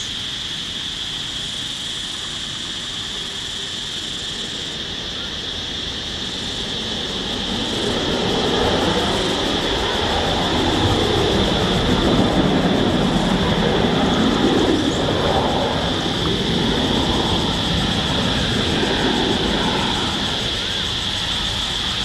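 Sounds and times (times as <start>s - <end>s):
jet engines whining and rumbling: 0.0s - 22.0s.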